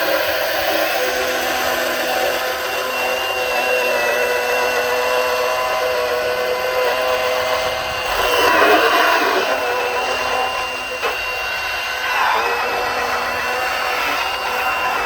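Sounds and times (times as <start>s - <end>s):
electric pruning saw cutting wood: 0.0s - 15.0s.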